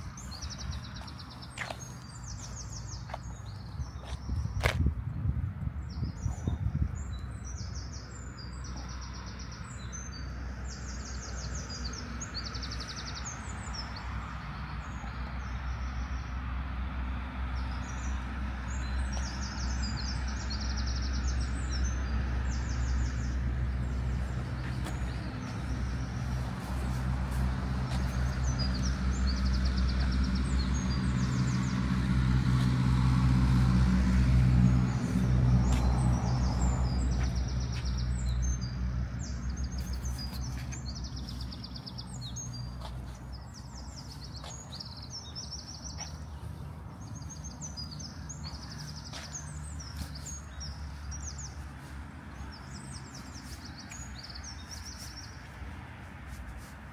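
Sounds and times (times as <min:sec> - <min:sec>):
road traffic rumble: 0:00.0 - 0:56.9
songbirds chirping and trilling: 0:00.0 - 0:56.9.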